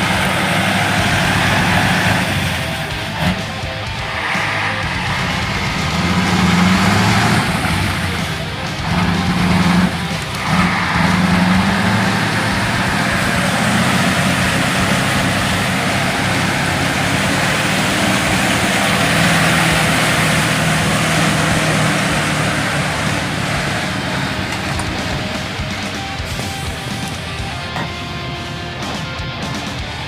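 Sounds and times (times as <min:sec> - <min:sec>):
heavy truck engine running: 0:00.0 - 0:30.0.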